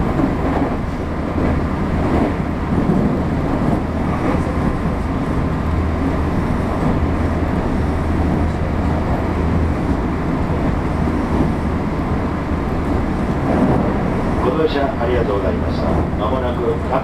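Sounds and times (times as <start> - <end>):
train wheels running on rail: 0.0 - 17.0.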